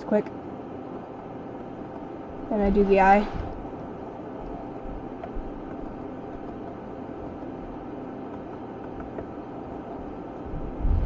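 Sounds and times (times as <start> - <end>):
room hum and hiss: 0.0 - 11.0.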